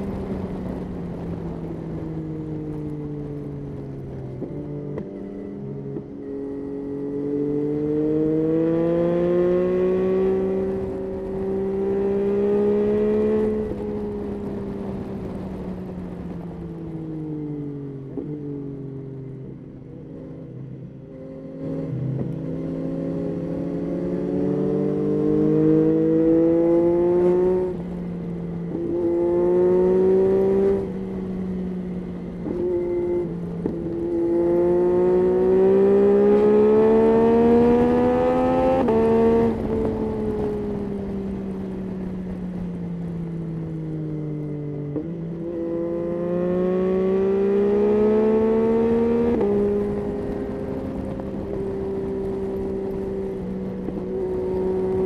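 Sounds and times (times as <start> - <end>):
motorcycle engine revving through gears: 0.0 - 16.2, 18.0 - 55.0.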